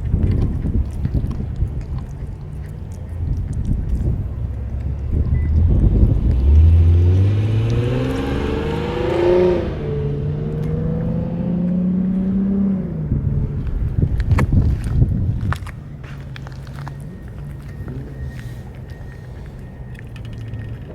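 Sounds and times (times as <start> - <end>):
vehicle engine accelerating: 3.1 - 20.9.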